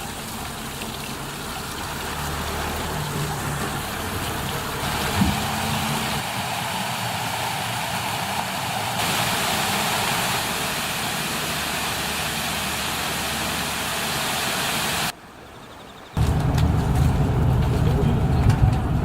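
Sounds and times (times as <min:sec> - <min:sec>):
stream water rushing: 0:00.0 - 0:17.7.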